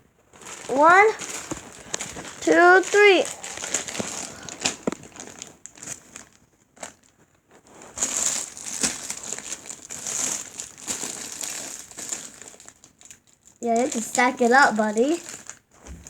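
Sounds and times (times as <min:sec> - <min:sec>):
foam toys rustling and crinkling: 0:00.0 - 0:16.0.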